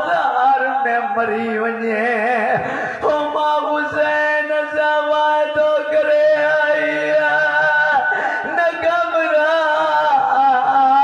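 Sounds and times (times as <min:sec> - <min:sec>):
man chanting a lament: 0:00.0 - 0:11.0.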